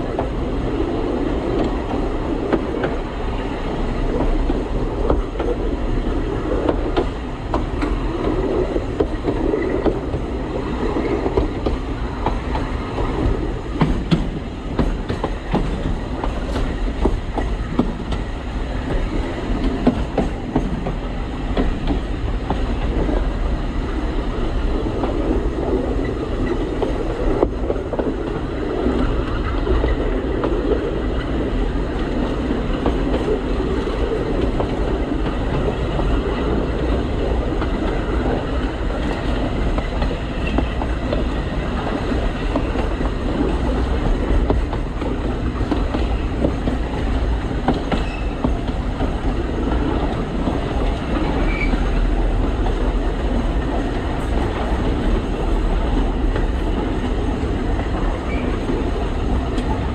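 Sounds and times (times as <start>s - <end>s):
train rumbling: 0.0s - 59.9s
wheels clicking on track: 0.0s - 59.9s.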